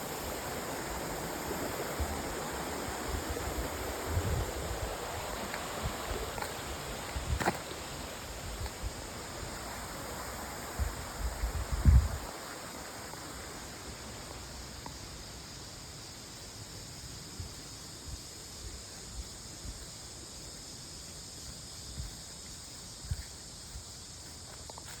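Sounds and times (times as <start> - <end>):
creek running: 0.0 - 25.0
insect drone: 0.0 - 25.0.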